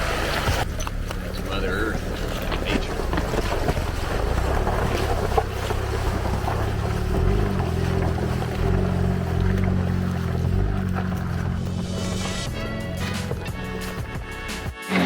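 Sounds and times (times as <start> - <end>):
rattles and crunching on rocky ground: 0.0 - 14.8
off-road vehicle engine running low: 0.0 - 15.0.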